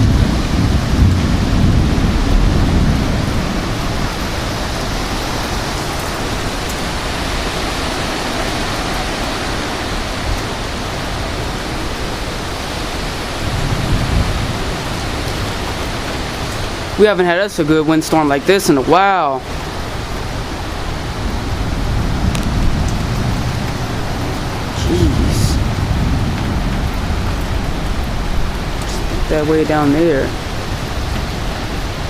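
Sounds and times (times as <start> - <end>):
deep thunder rumbling: 0.0 - 17.0, 19.9 - 32.0
strong wind rushing: 0.0 - 17.0, 19.0 - 32.0
heavy rain: 0.0 - 32.0.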